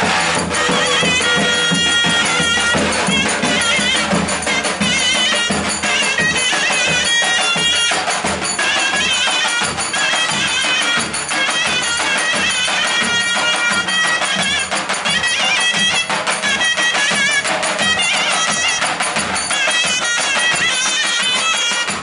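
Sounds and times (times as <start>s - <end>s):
drum strokes: 0.0s - 22.0s
shrill reed wind instrument melody: 0.0s - 22.0s.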